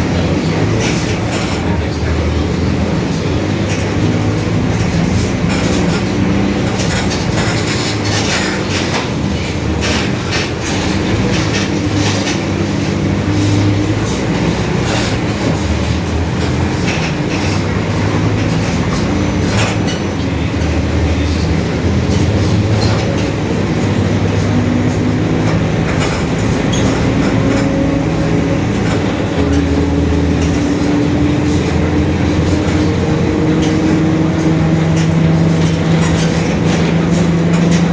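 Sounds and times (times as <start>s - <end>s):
bus body rattles: 0.0s - 37.9s
bus differential droning: 0.0s - 37.9s
road running noise: 0.0s - 37.9s.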